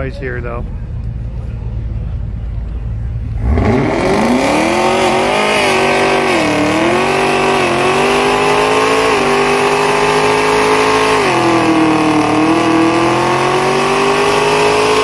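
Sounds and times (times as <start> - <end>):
car engine revving: 1.3 - 15.0.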